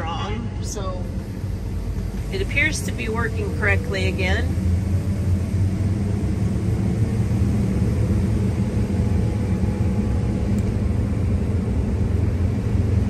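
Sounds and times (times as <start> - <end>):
combine harvester droning: 0.0 - 13.0.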